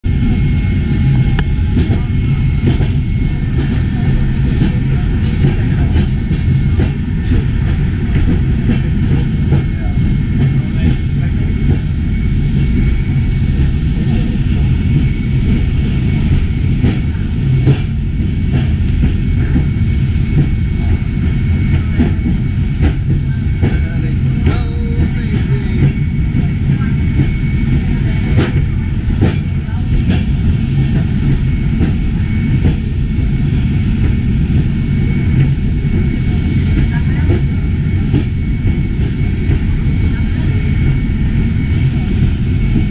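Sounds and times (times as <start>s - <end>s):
funicular car rumbling on rails: 0.0s - 42.9s
thin steady whine: 0.1s - 42.9s.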